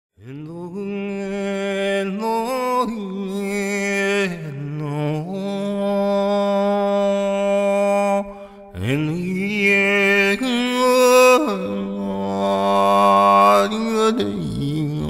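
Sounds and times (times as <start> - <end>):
man chanting wordless notes: 0.2 - 15.0.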